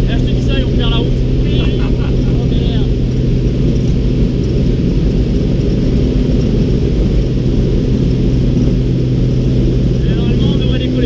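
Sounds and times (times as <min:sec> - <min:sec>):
light aircraft engine droning: 0:00.0 - 0:11.0.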